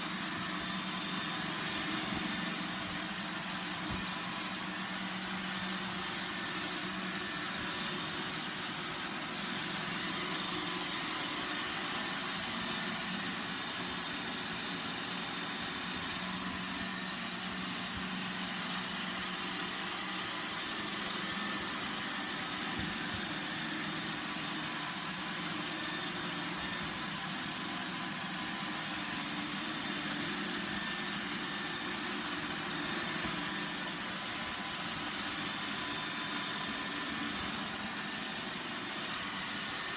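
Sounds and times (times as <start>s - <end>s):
robot vacuum motor whir: 0.0s - 39.9s.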